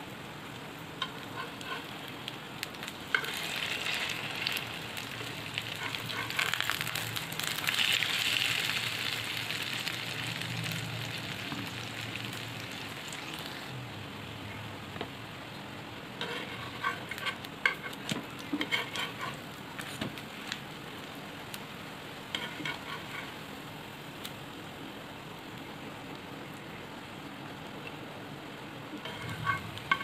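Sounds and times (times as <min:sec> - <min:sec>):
patties sizzling in oil: 0:00.0 - 0:26.8, 0:28.6 - 0:30.0.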